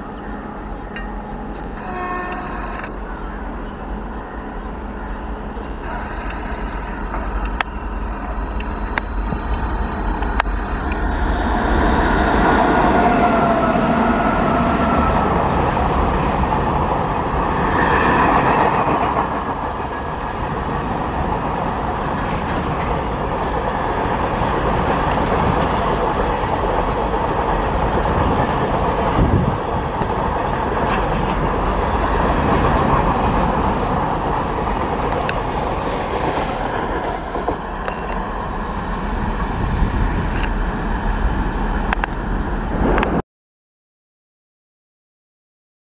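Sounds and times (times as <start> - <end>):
train wheel clatter: 0.0 - 38.5
electric locomotive whine: 0.0 - 43.2.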